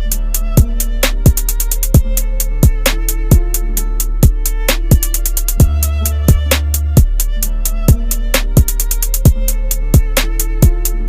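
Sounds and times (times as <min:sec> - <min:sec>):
hi-hat ticks: 0:00.0 - 0:11.0
kick drum beat: 0:00.0 - 0:11.0
sustained string-like notes: 0:00.0 - 0:11.0.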